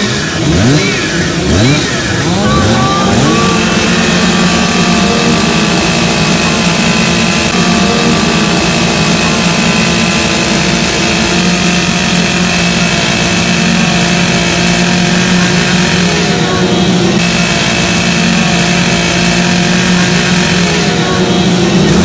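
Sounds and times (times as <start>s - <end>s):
chainsaw running at high speed: 0.0s - 22.0s.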